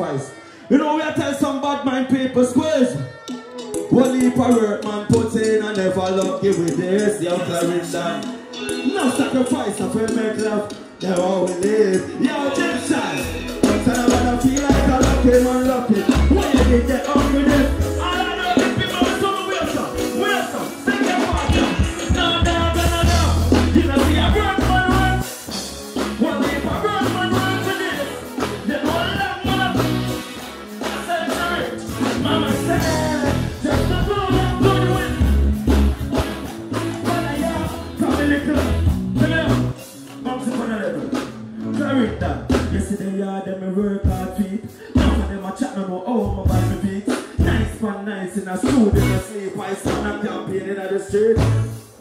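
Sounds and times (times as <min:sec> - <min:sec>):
backing track with heavy bass beat: 0:03.6 - 0:43.1, 0:43.9 - 0:45.6, 0:46.2 - 0:47.9, 0:48.5 - 0:52.0
man singing into a microphone: 0:03.8 - 0:25.4, 0:26.2 - 0:30.0, 0:30.8 - 0:35.5, 0:36.8 - 0:39.8, 0:40.4 - 0:51.9.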